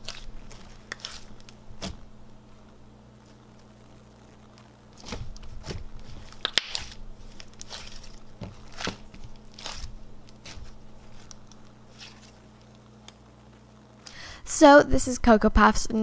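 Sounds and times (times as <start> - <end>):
slime crackling and popping: 0.0 - 13.2.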